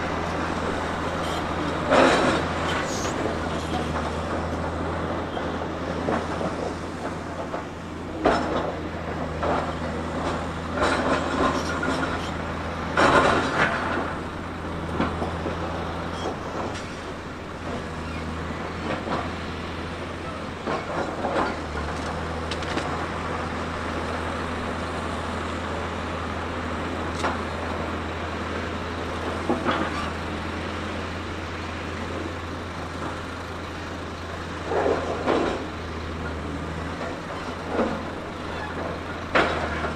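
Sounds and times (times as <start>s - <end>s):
diesel engine droning: 0.0s - 39.9s
earthmoving machine working noises: 0.0s - 39.9s.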